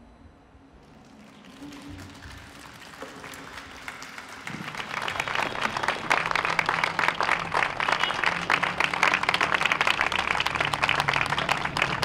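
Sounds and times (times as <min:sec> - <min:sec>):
audience applause: 0:00.8 - 0:12.0
music: 0:00.9 - 0:12.0.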